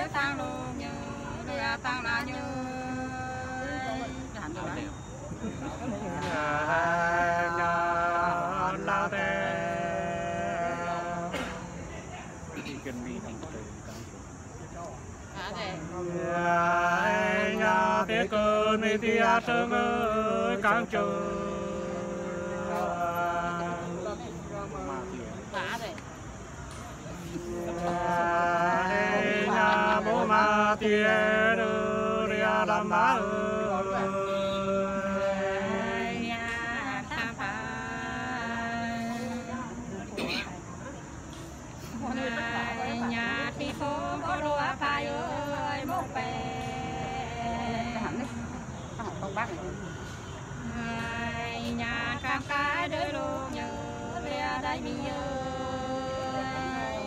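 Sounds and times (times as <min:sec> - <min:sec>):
men singing in two voices: 0:00.0 - 0:12.2, 0:15.5 - 0:25.6, 0:27.1 - 0:40.4, 0:41.3 - 0:49.9, 0:50.5 - 0:57.0.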